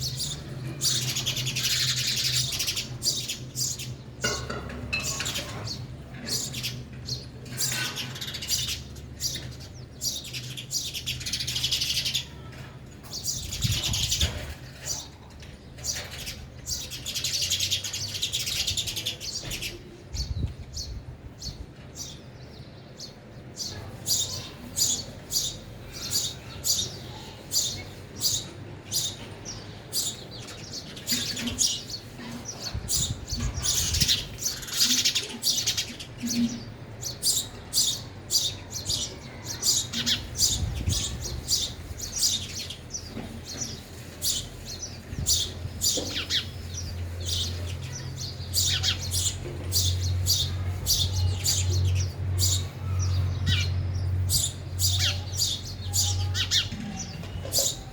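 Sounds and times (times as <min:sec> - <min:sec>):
sparrows chirping: 0:00.0 - 0:57.9.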